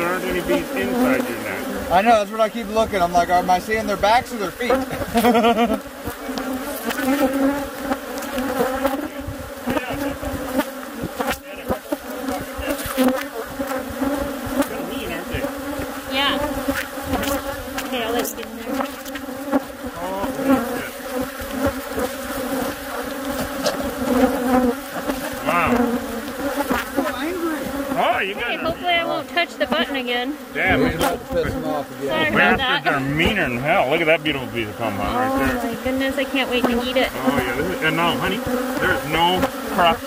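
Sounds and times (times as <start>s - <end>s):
bees buzzing loudly: 0.0s - 40.0s.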